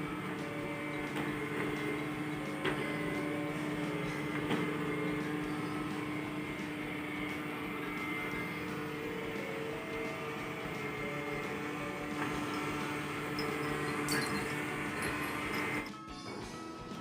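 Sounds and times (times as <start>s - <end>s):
robot vacuum motor hum: 0.0s - 15.9s.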